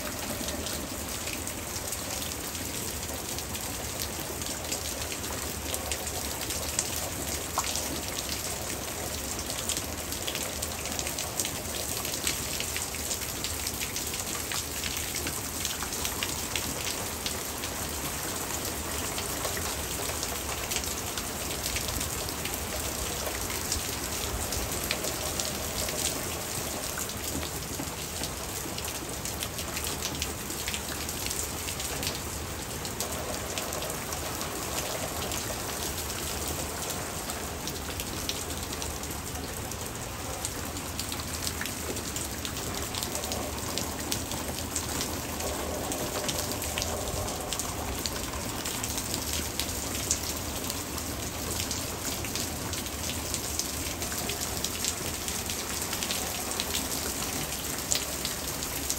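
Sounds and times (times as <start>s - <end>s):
hard rain falling: 0.0s - 58.9s.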